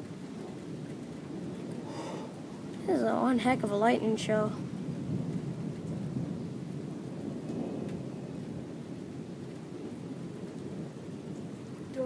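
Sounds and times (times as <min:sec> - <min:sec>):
rain: 0:00.0 - 0:12.0
thunder rumbling: 0:00.0 - 0:12.0.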